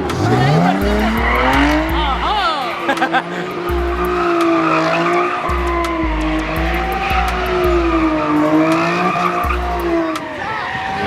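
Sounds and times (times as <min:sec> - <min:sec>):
music with heavy bass: 0:00.0 - 0:10.3
car engine: 0:00.0 - 0:11.0
tyres squealing: 0:00.0 - 0:11.0.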